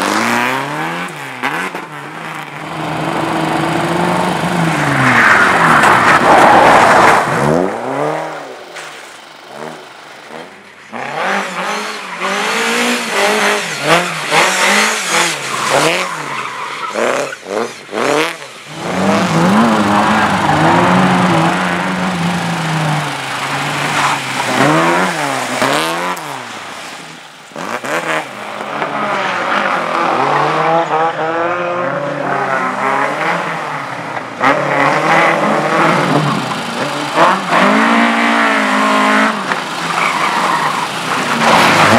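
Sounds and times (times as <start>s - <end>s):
race car engine revving: 0.0s - 8.7s, 9.3s - 41.9s
tyres skidding: 0.0s - 41.9s.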